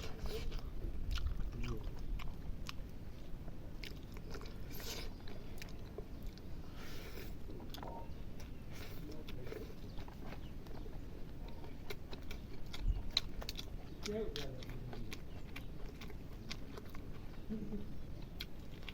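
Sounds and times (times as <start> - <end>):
person chewing food: 0.0 - 18.9.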